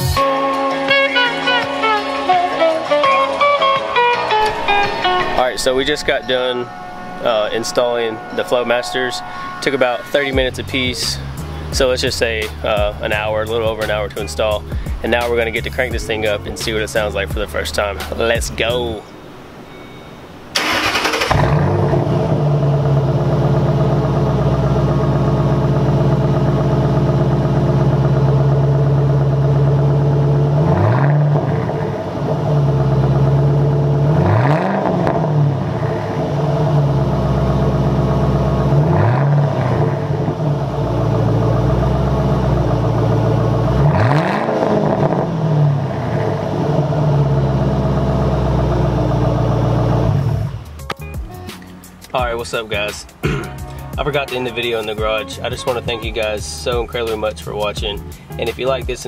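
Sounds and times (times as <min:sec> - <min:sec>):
car engine starting and revving: 0:01.2 - 0:19.4, 0:20.5 - 0:50.9.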